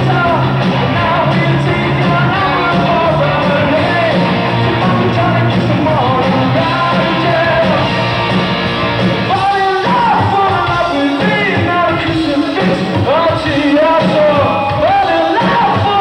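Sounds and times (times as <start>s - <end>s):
man singing into microphone: 0.0s - 8.0s, 9.3s - 16.0s
rock band playing live: 0.0s - 16.0s.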